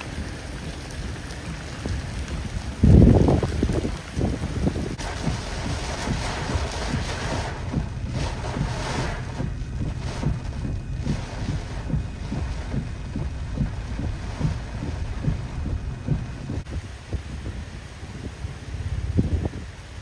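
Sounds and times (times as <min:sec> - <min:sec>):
hiss of wind-driven rain: 0:00.0 - 0:20.0
wind buffeting microphone: 0:00.0 - 0:20.0.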